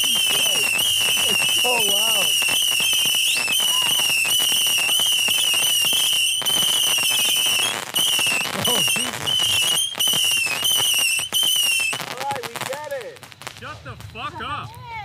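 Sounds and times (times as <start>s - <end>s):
crackling sparks: 0.0s - 15.0s
firework whistling: 0.0s - 15.0s.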